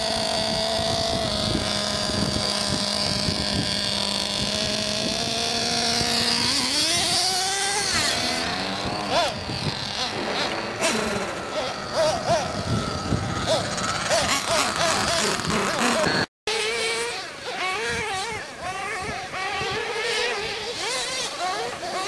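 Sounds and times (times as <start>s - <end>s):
small engines buzzing at high revs: 0.0s - 22.0s.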